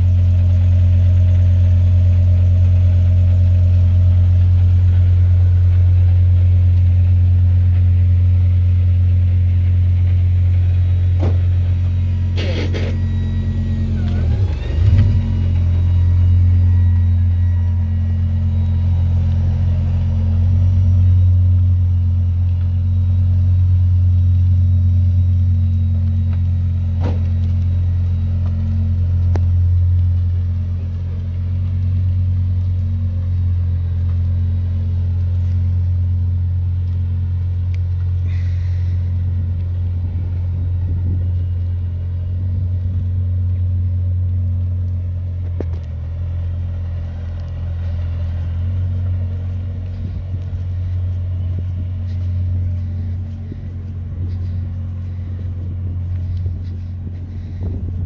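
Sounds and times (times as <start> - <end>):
race car engine idling: 0.0 - 58.0.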